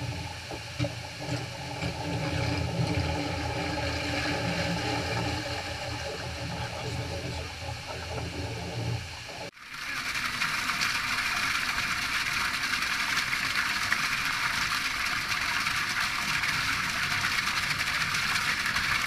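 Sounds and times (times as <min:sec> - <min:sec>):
water gushing into tank: 0:00.0 - 0:19.0.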